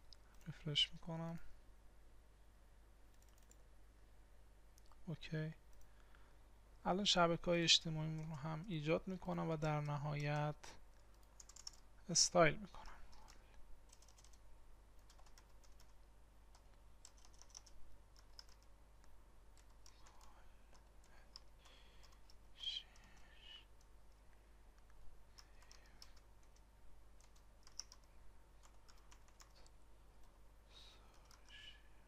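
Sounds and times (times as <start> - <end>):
faint keyboard typing: 0.0 - 1.4, 3.1 - 3.6, 4.7 - 6.2, 7.9 - 12.0, 12.6 - 32.0.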